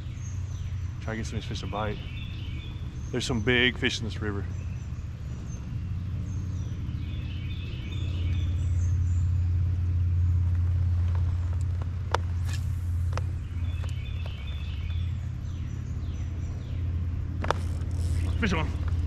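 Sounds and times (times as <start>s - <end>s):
faint birds chirping: 0.0s - 19.0s
low steady rumble: 0.0s - 19.0s.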